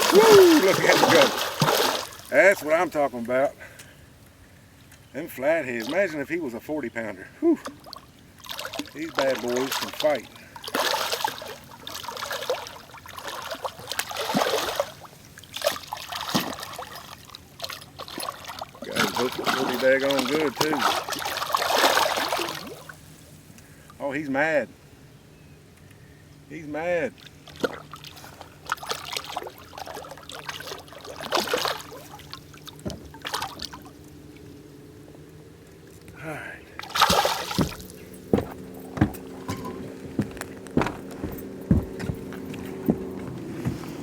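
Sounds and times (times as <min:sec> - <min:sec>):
water splashing and sloshing: 0:00.0 - 0:03.4, 0:05.7 - 0:06.3, 0:07.6 - 0:23.5, 0:27.1 - 0:44.0.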